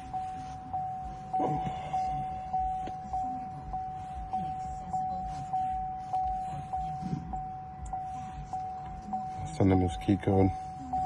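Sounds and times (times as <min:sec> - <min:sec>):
car warning chime: 0:00.0 - 0:11.0.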